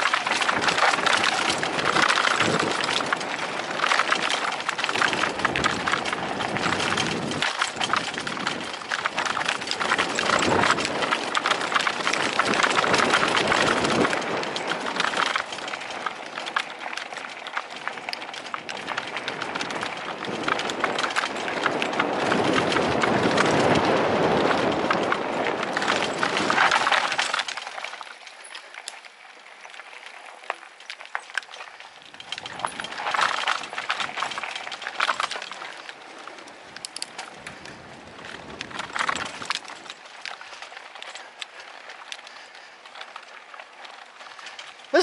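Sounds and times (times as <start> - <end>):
bike rattling and clicking: 0.0 - 45.0
tyres crunching over dirt: 0.0 - 45.0.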